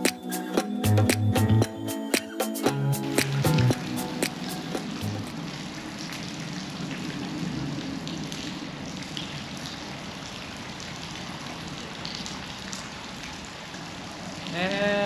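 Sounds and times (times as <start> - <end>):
flowing river water: 2.2 - 15.0.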